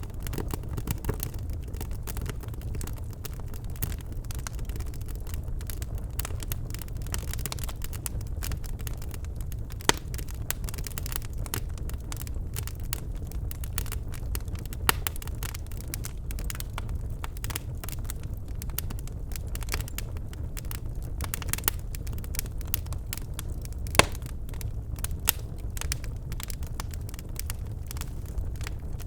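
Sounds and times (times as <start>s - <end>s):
sharp pops of burning logs: 0.0s - 9.1s, 9.7s - 11.8s, 13.6s - 29.0s
fire crackling: 0.0s - 29.0s
fire rumbling in fireplace: 0.0s - 29.0s.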